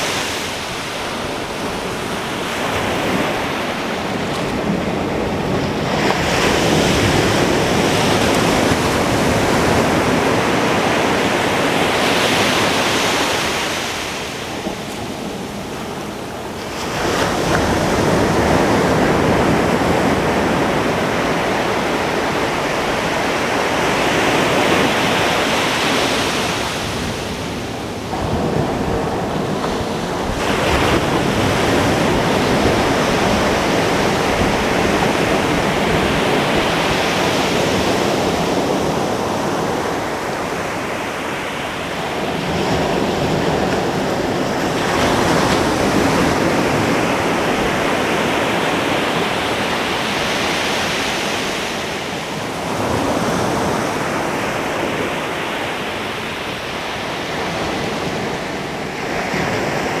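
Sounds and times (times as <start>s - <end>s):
ocean waves breaking on beach: 0.0s - 60.0s.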